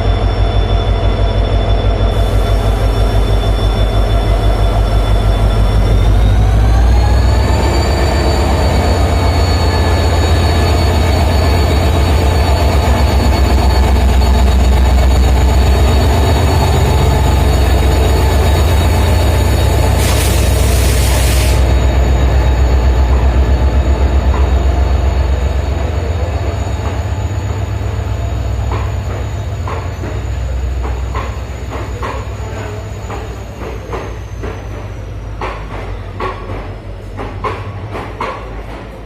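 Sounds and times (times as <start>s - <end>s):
locomotive diesel engine running: 0.0s - 37.0s.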